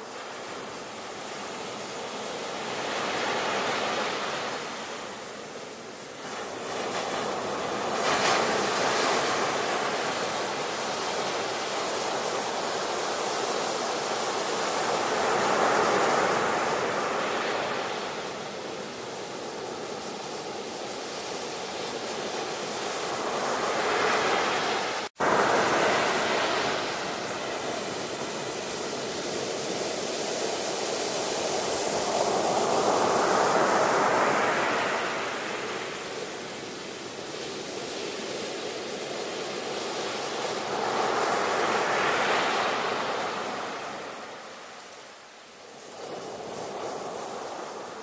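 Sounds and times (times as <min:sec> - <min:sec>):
ocean waves washing ashore: 0:00.0 - 0:48.0.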